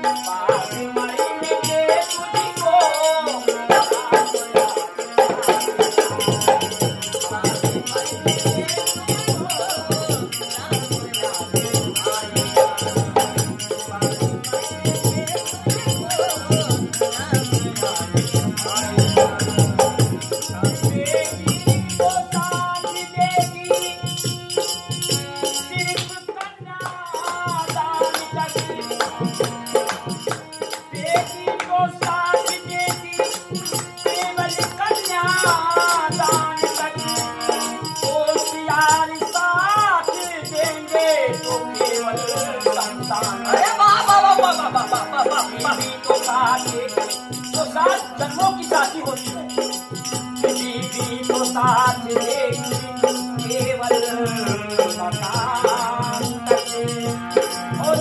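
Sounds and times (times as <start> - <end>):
men singing folk song: 0.0 - 24.7, 25.5 - 58.0
dholak drum rhythm: 0.0 - 58.0
harmonium: 0.0 - 58.0.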